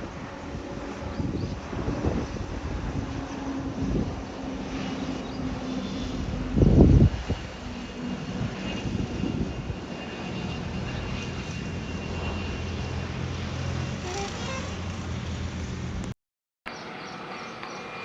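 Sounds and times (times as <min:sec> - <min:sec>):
jet engines humming and whining: 0:00.0 - 0:18.0.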